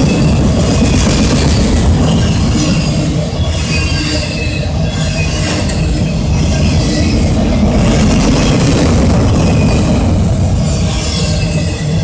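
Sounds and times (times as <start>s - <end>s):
high wheel squeals: 0.0s - 7.8s, 9.3s - 12.0s
steel train wheels rumbling on rails: 0.0s - 12.0s.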